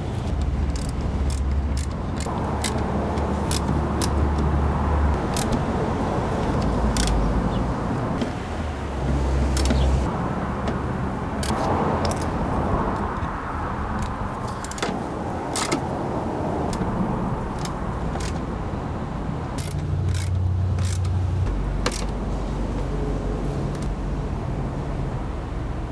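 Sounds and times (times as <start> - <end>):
sharp knocks and clicks: 0.0 - 16.0, 16.6 - 18.7, 19.5 - 24.0
car low rumble: 0.0 - 25.9.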